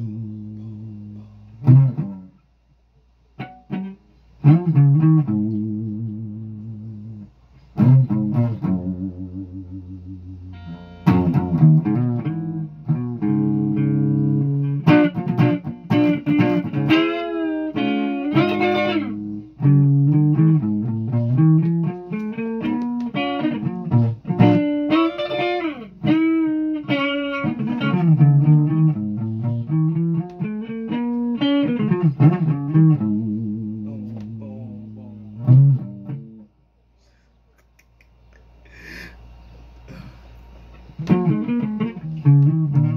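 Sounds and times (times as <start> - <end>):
plucked guitar melody: 0.0 - 2.4, 3.4 - 36.5, 40.8 - 42.9.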